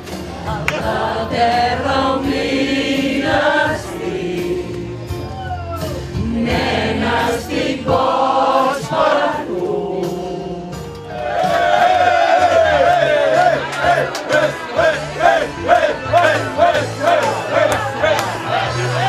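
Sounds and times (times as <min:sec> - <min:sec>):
group of people singing: 0:00.2 - 0:05.2, 0:06.1 - 0:19.0.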